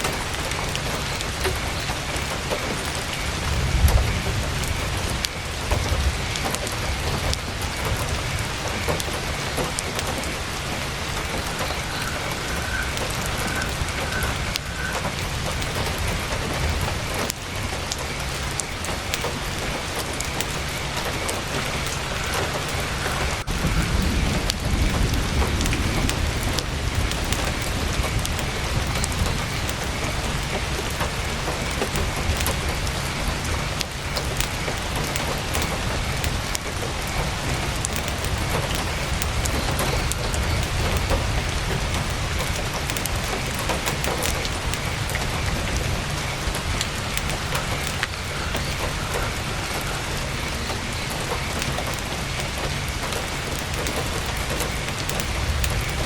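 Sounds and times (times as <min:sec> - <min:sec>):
constant low rumble: 0:00.0 - 0:56.0
heavy rain on tent canvas: 0:00.0 - 0:56.0.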